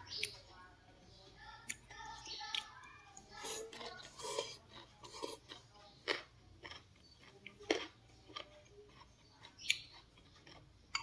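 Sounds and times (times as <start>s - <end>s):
chewing noises: 1.6s - 11.0s.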